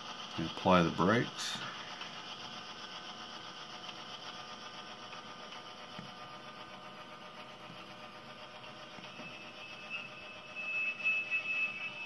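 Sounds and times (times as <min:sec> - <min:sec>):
model locomotive diesel sound: 0:00.0 - 0:12.0.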